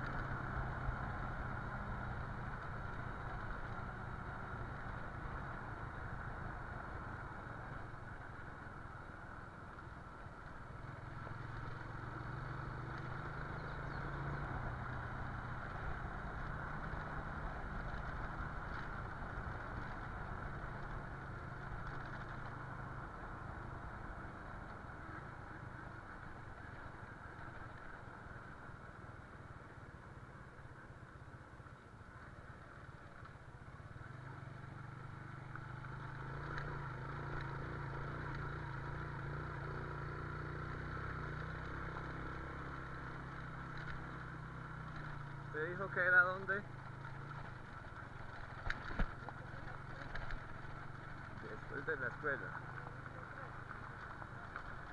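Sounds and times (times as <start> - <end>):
motorcycle engine running: 0.0 - 54.9
road noise: 0.0 - 54.9.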